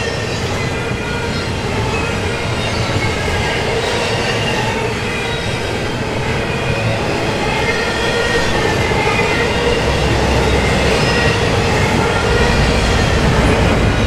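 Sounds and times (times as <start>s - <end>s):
high squealing of wheels: 0.0s - 14.0s
rumble of train wheels on rail: 0.0s - 14.0s.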